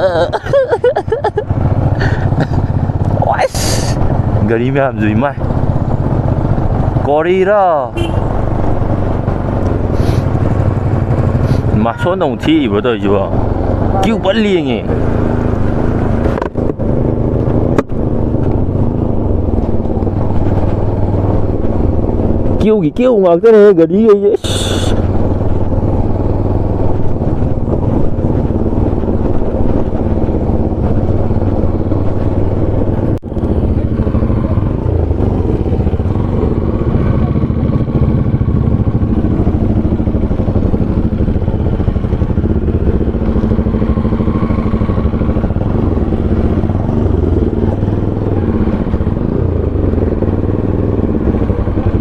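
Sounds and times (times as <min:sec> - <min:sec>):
motorcycle engine rumble: 0:00.0 - 0:52.0.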